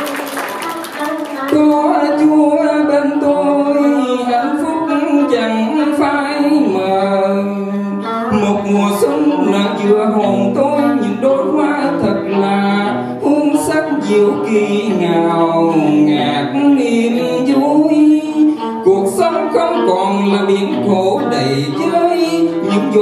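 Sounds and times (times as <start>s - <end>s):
instrumental backing music: 0.0s - 23.0s
man singing into a microphone: 1.4s - 23.0s.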